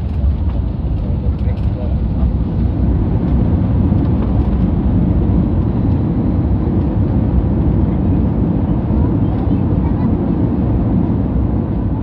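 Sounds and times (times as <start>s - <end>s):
aircraft cabin rumble on landing: 0.0s - 12.0s.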